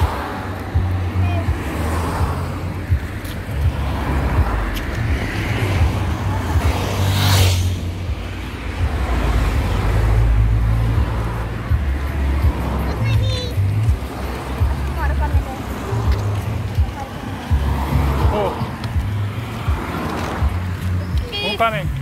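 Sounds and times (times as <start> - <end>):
road traffic: 0.0 - 22.0
vehicle passing: 0.0 - 22.0.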